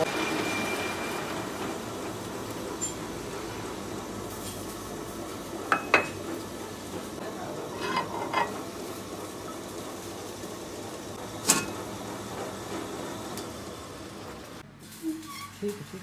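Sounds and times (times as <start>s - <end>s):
lathe belt drive humming: 0.0s - 14.6s.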